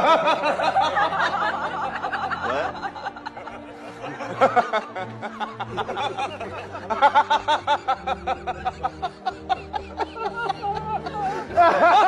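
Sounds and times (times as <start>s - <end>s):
background music: 0.0s - 12.0s
person laughing in bursts: 0.0s - 12.0s.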